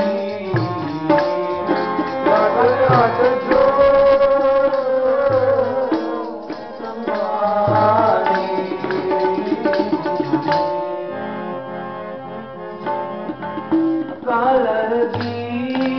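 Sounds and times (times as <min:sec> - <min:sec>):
tabla drumming: 0:00.0 - 0:11.5, 0:12.6 - 0:15.9
harmonium melody: 0:00.0 - 0:15.9.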